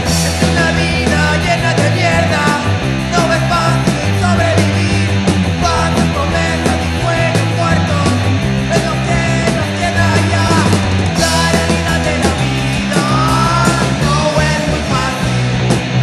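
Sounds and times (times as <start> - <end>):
hardcore punk music: 0.0 - 16.0.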